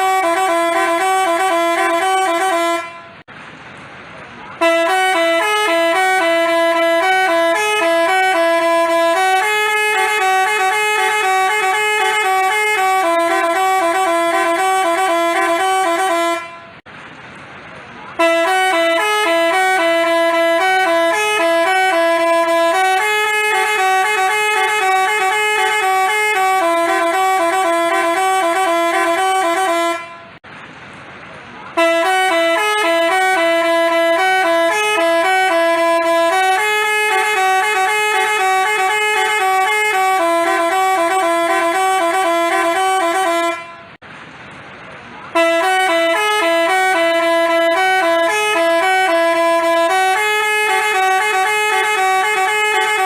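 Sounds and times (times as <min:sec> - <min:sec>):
bus horn playing a melody: 0:00.0 - 0:03.3, 0:04.5 - 0:16.9, 0:18.1 - 0:30.4, 0:31.7 - 0:44.0, 0:45.3 - 0:53.0.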